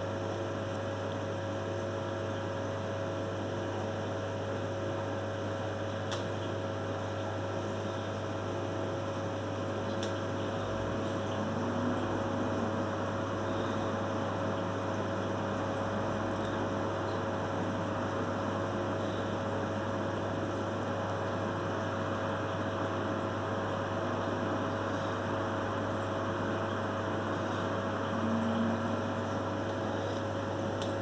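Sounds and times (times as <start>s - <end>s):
aquarium equipment electrical hum: 0.0s - 31.0s.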